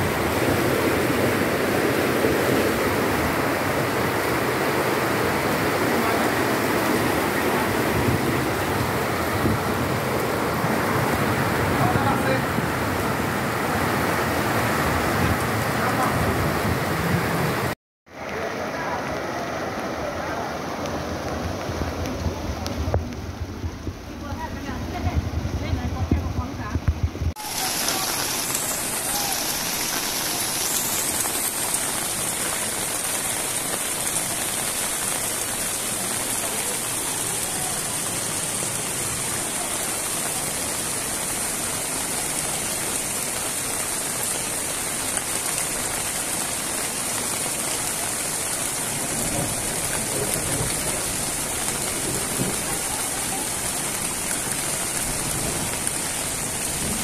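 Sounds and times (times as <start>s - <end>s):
floodwater rushing: 0.0s - 57.0s
heavy rain: 0.0s - 57.0s.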